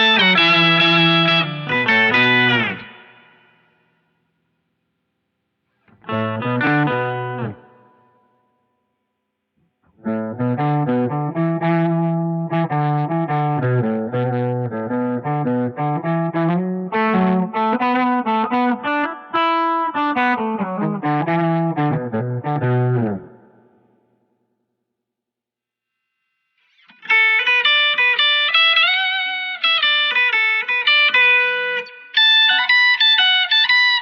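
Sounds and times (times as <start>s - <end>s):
electric guitar with octave effect: 0.0s - 4.2s, 5.7s - 8.8s, 9.6s - 24.2s, 26.6s - 34.0s.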